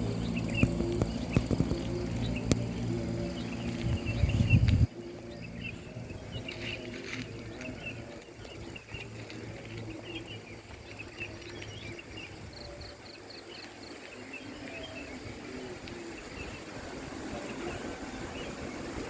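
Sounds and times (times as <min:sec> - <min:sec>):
bird chirps: 0:00.0 - 0:15.4
steady low hum: 0:00.0 - 0:19.0.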